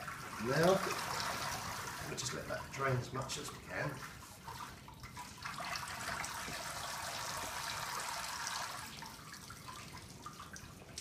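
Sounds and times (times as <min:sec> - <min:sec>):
liquid trickling into bucket: 0:00.0 - 0:11.0.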